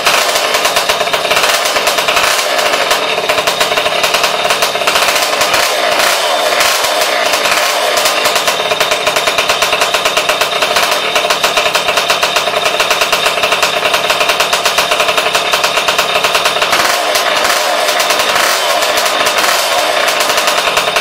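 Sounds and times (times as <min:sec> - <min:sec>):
small two-stroke engine running: 0:00.0 - 0:21.0.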